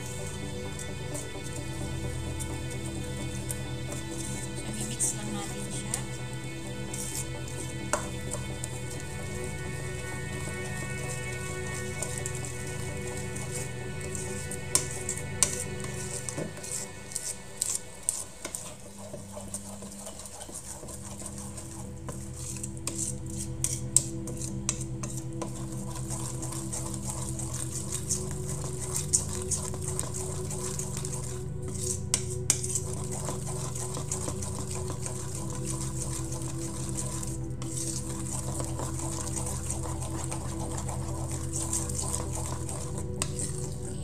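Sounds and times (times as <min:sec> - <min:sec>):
spatula scraping metal bowl: 0:00.0 - 0:44.0
spatula stirring thick batter: 0:00.0 - 0:44.0
steady low hum: 0:00.0 - 0:44.0.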